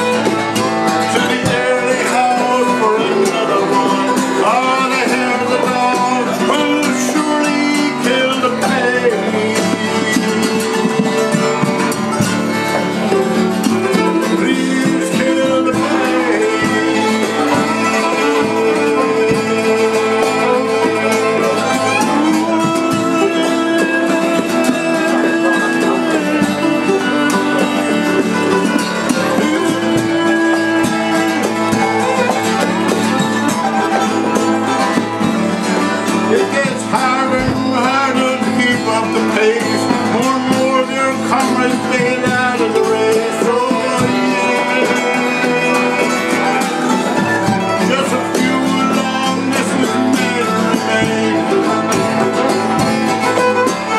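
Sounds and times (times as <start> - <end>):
acoustic guitar strumming: 0.0 - 53.9
fiddle melody: 0.0 - 53.9
mandolin: 0.0 - 53.9.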